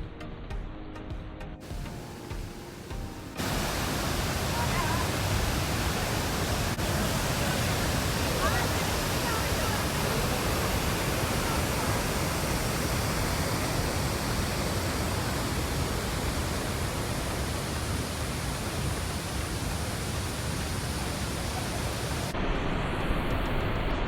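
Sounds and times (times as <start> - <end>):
large waterfall rushing: 1.6 - 23.6.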